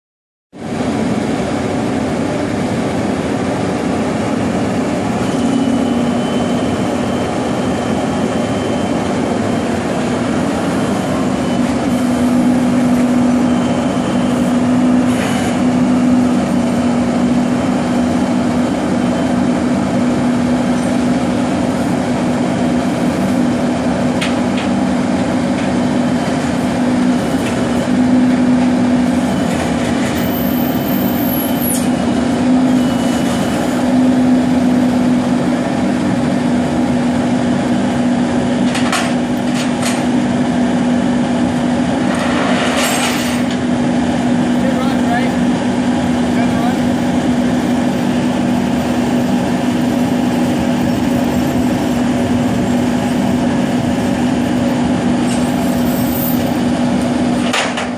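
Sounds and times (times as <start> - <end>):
tow truck engine and hydraulics hum: 0.6 - 57.9.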